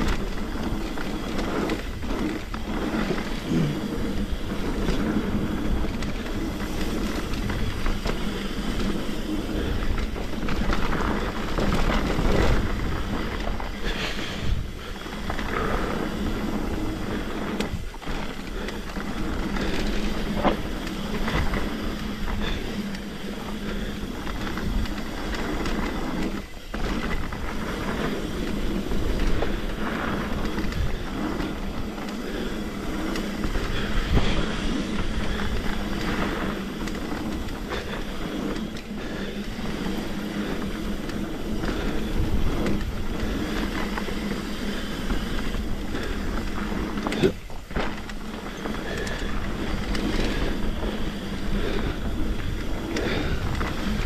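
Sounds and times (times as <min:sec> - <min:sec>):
bike knocks and rattles: 0:00.0 - 0:54.0
bike tyres on dirt trail: 0:00.0 - 0:54.0.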